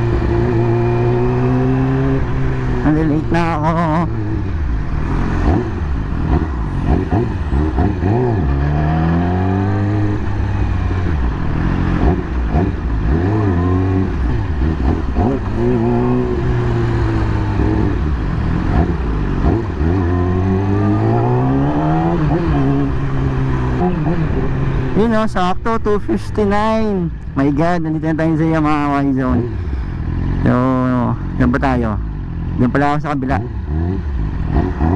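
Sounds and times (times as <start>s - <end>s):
motorcycle engine revving: 0.0s - 34.9s
road and wind noise: 0.0s - 34.9s.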